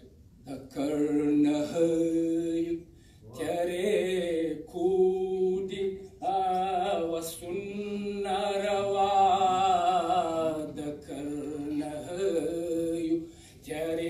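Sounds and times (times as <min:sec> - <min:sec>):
man chanting into microphone: 0:00.4 - 0:14.0.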